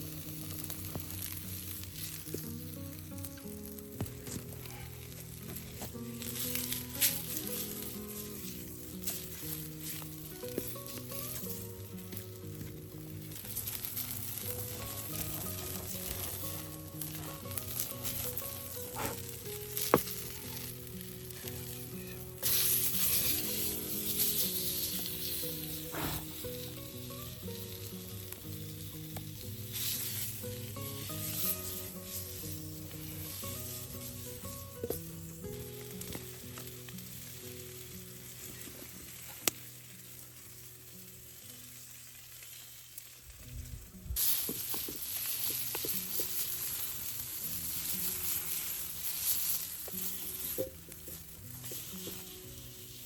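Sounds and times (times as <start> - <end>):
food sizzling in a pan: 0.0 - 53.0
soft background music: 0.0 - 53.0.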